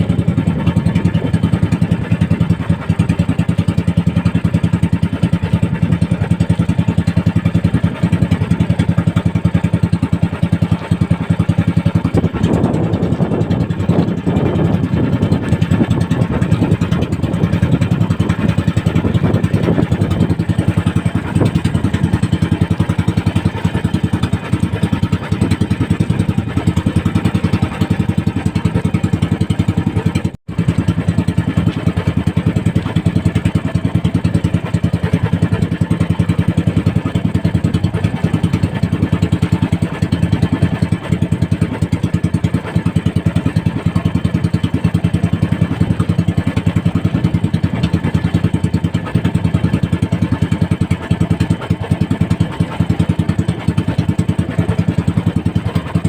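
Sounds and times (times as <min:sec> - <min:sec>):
boat engine puttering: 0:00.0 - 0:56.0.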